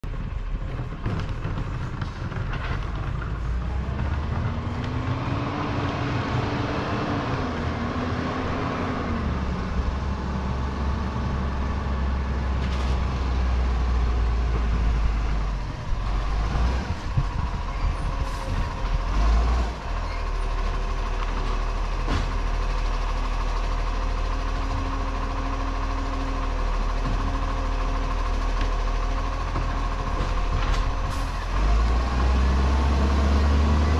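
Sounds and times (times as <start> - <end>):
garbage truck diesel engine: 0.0 - 33.9.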